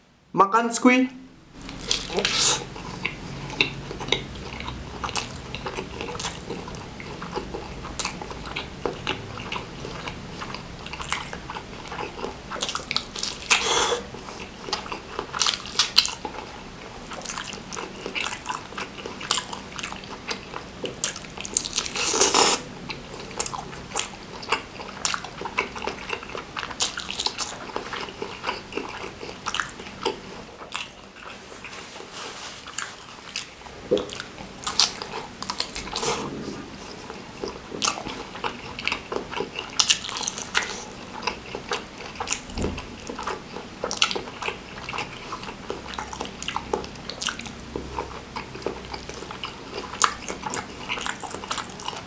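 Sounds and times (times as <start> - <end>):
close chewing and biting: 1.6 - 52.0.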